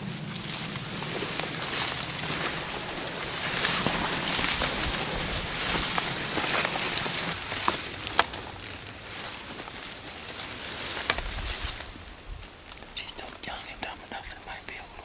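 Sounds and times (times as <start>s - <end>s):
wind through trees: 0.0s - 15.0s.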